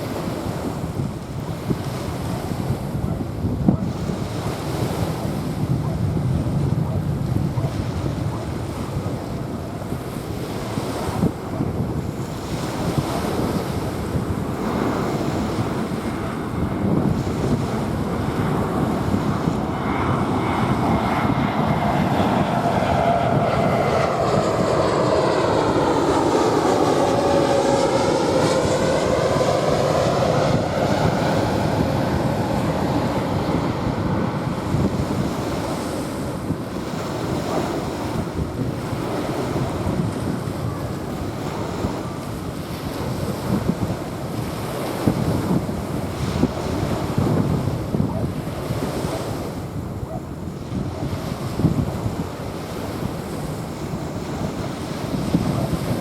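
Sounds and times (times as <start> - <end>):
jet airliner passing overhead: 0.0 - 56.0
waves washing on sandy shore: 0.0 - 56.0
wind on microphone: 0.0 - 56.0.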